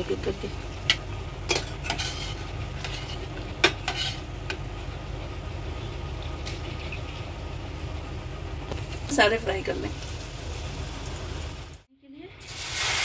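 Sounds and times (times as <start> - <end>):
low sizzle of frying: 0.0 - 13.0.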